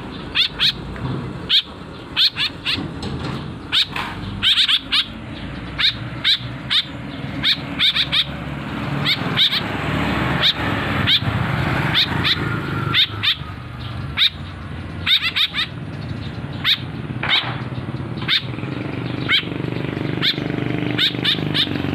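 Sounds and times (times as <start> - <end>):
young birds calling: 0.0 - 21.9.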